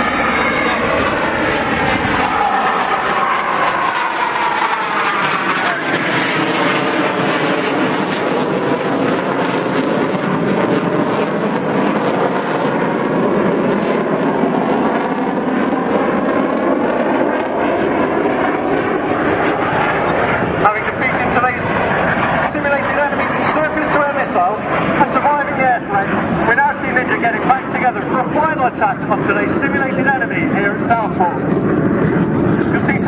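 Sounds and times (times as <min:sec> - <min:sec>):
jet aircraft roaring overhead: 0:00.0 - 0:33.0.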